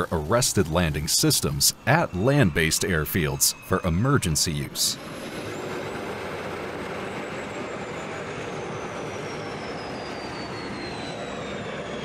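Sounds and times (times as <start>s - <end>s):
high turbine whine: 0.0s - 12.0s
jet engine rushing: 0.0s - 12.0s.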